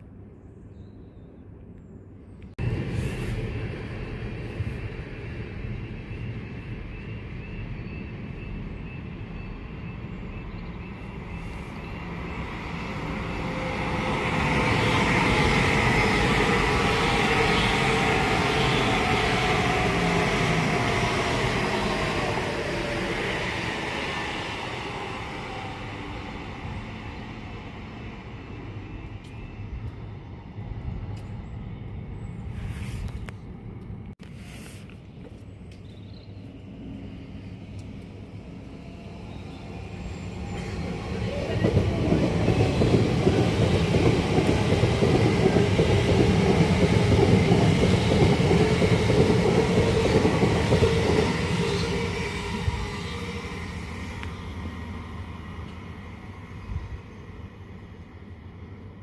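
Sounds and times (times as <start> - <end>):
train passing with falling whine: 2.6 - 34.2, 36.3 - 59.0.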